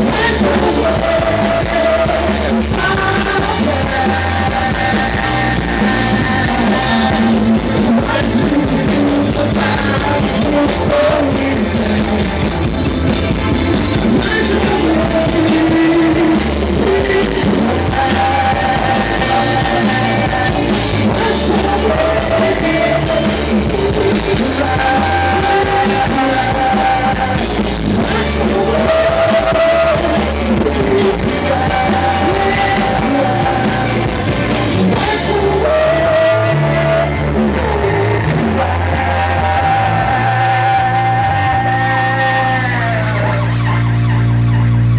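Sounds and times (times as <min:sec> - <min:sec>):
rock music with singing: 0:00.0 - 0:44.9.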